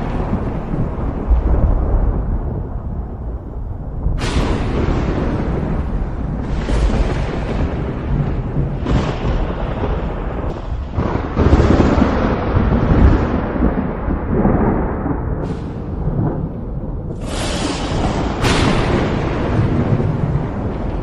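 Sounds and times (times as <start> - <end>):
thunder cracks: 0.0 - 21.0
thunder rumbling: 0.0 - 21.0.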